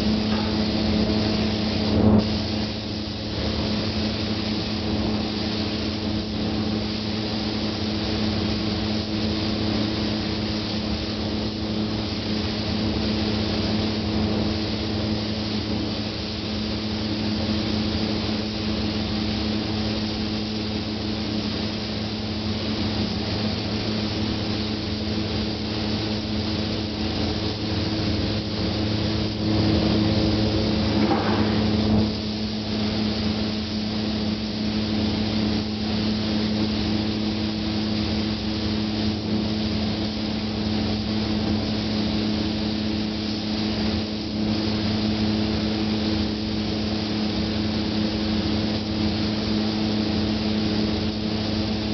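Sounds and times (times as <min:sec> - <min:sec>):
spray hissing: 0:00.0 - 0:18.3, 0:21.4 - 0:46.0
spray equipment motor hum: 0:00.0 - 0:51.9.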